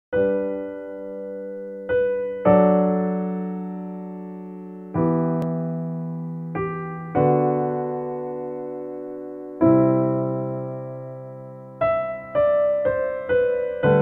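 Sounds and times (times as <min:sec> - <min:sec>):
slow solo piano chords: 0:00.2 - 0:14.0.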